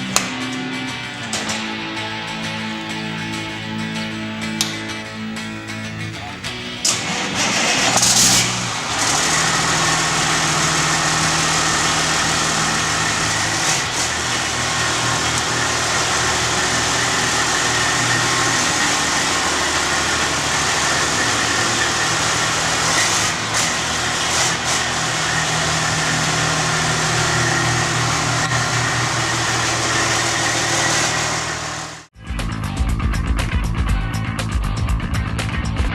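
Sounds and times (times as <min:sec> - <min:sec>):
diesel truck engine running: 0:00.0 - 0:32.7.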